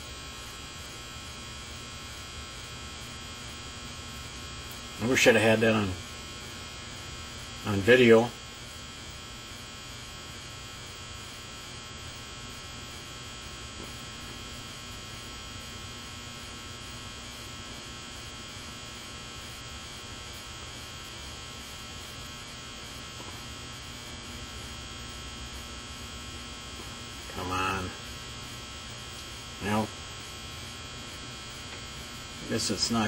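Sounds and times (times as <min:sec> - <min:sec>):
electrical buzz with hum: 0:00.0 - 0:33.0.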